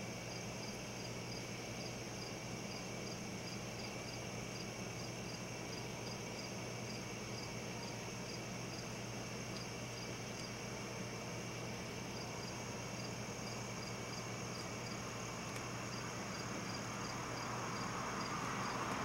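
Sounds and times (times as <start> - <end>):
constant hiss: 0.0 - 19.0
crickets chirping: 0.0 - 19.0
high insect trill: 0.0 - 19.0.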